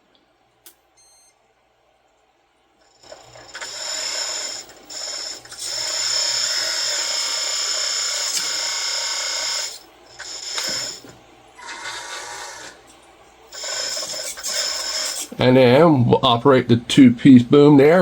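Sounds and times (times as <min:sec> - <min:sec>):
hydraulic pump whining: 0:02.8 - 0:18.0.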